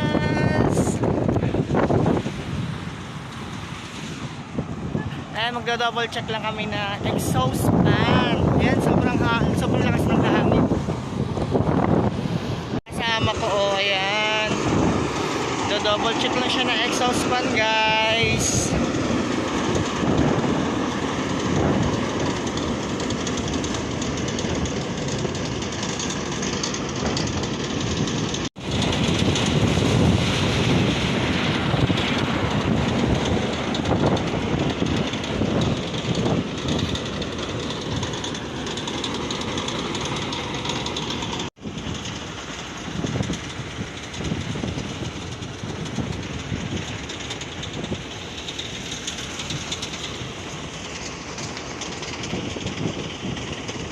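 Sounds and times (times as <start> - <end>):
wind blowing over microphone: 0.0 - 53.9.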